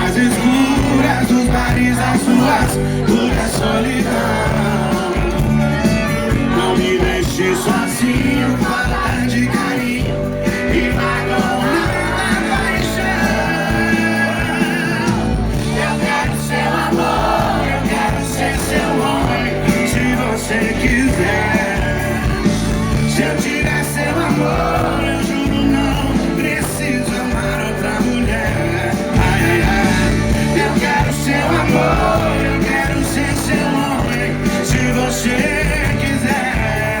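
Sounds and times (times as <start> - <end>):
live band music with singing: 0.0 - 37.0.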